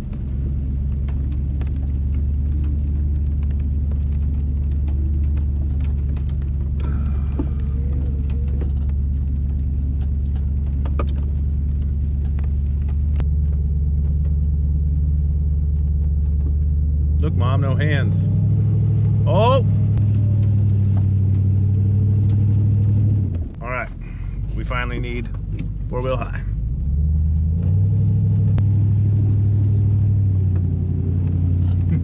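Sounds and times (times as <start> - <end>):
vehicle engine low drone: 0.0 - 32.0.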